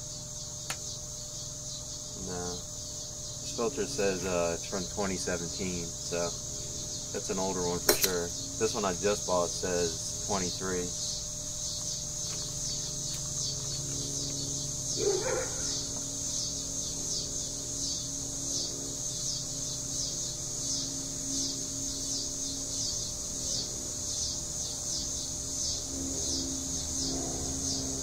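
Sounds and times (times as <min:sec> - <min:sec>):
insects pulsing buzz: 0:00.0 - 0:28.0.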